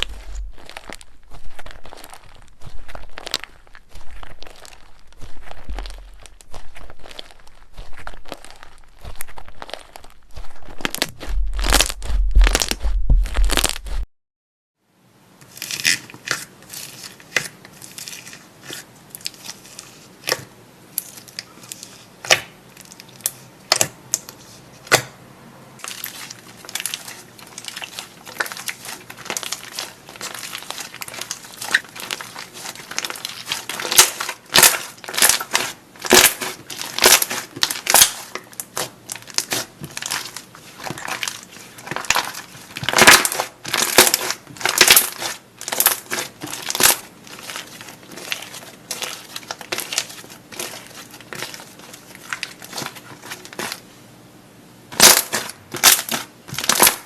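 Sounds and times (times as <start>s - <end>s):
crunchy slime crackling: 0.0s - 14.0s, 15.4s - 25.1s, 25.8s - 53.9s, 54.9s - 57.0s.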